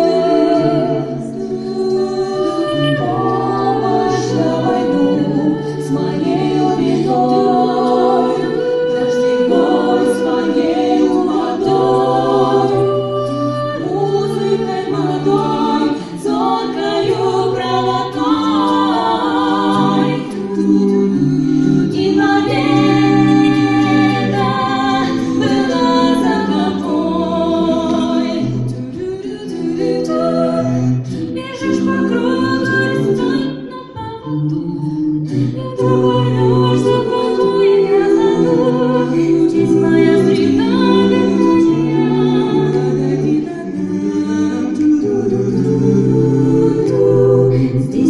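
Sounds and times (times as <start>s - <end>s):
a cappella vocal ensemble singing: 0.0s - 48.0s.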